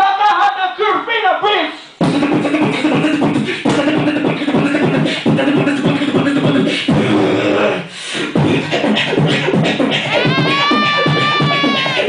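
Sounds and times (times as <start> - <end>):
beatboxing through microphone: 1.5 - 12.0.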